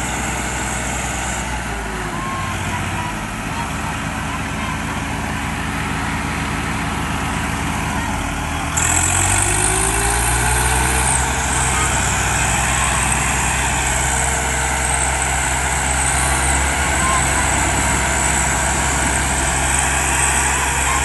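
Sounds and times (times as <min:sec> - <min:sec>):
diesel tractor engines revving: 0:00.0 - 0:21.0.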